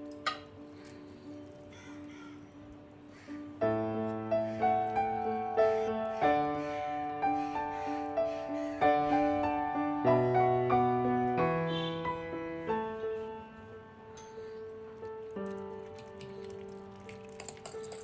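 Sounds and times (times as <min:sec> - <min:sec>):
gentle keyboard melody: 0:00.0 - 0:18.0.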